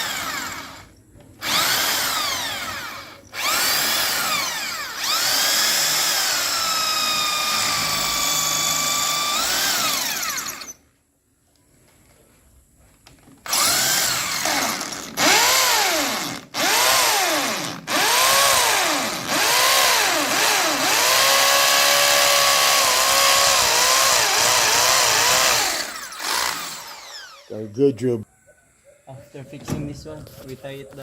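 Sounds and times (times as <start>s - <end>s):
electric drill drilling: 0.0s - 10.8s, 13.5s - 27.5s.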